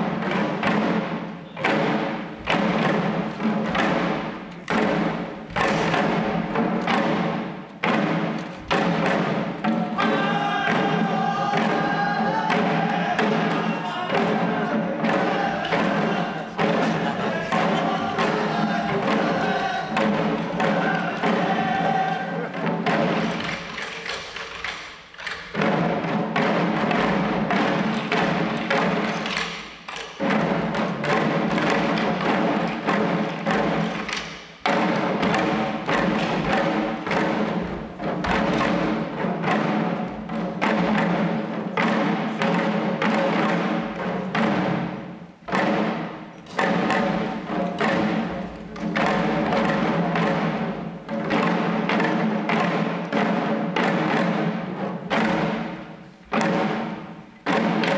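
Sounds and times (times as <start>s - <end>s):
small drums beating: 0.0s - 57.9s.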